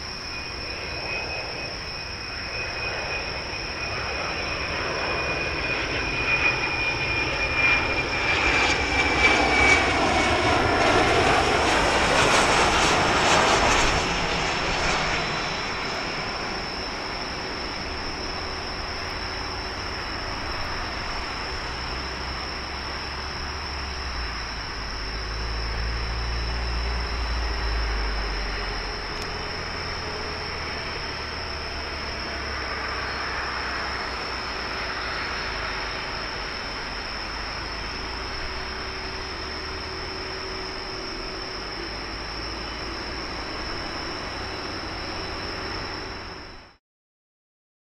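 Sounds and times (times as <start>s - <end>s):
jet engines rumbling: 0.0s - 46.8s.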